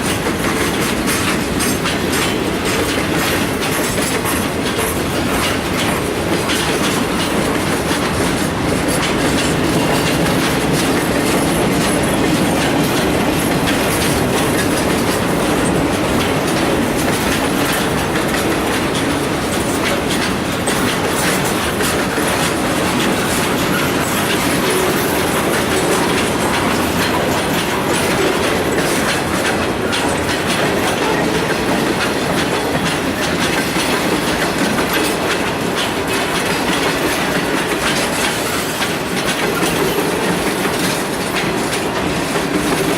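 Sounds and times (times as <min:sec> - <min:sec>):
freight train cars rolling past: 0:00.0 - 0:42.9
wheels clacking over rail joints: 0:00.0 - 0:42.9.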